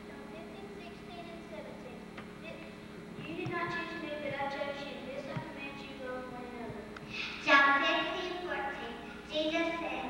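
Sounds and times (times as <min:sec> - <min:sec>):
child speaking into microphone: 0:00.0 - 0:10.0.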